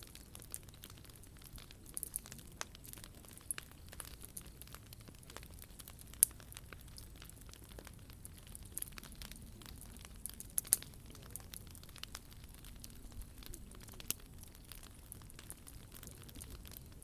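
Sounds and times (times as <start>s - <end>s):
sharp pops of fire: 0.0s - 17.0s
wood fire crackling: 0.0s - 17.0s.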